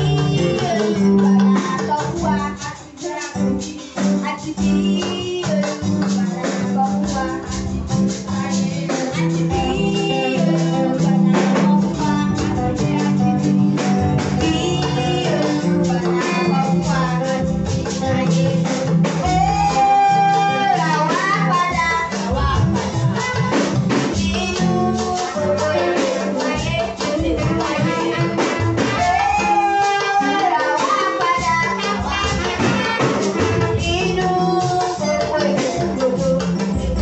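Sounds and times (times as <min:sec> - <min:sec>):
children's choir singing: 0:00.0 - 0:35.6
live band playing: 0:00.0 - 0:37.0.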